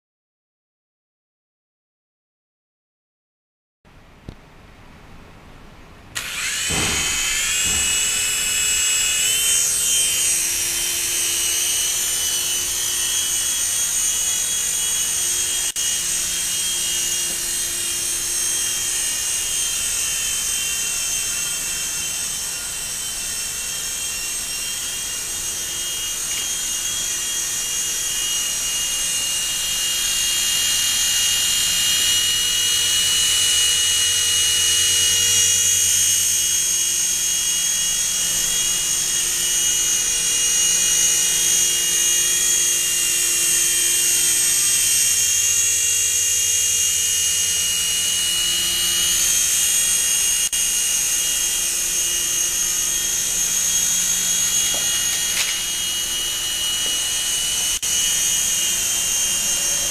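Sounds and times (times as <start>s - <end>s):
rc helicopter motor whine: 6.2s - 59.9s.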